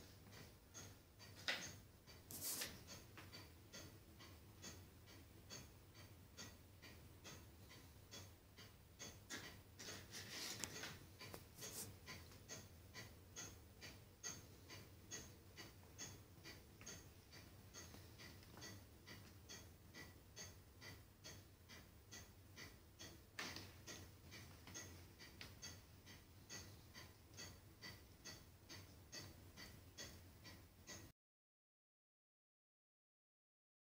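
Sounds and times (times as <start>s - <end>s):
faint regular ticking: 0.0s - 31.1s.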